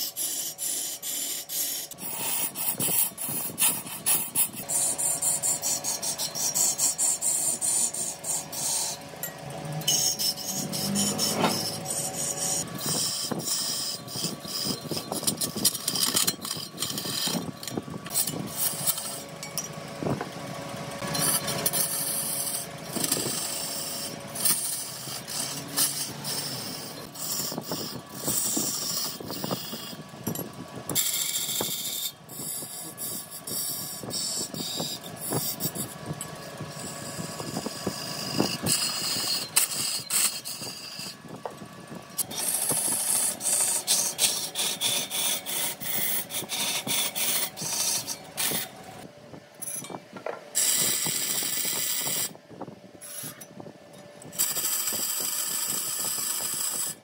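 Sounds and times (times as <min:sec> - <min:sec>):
wood lathe tool scraping wood: 0:00.0 - 0:49.1, 0:50.5 - 0:52.4, 0:54.2 - 0:57.0.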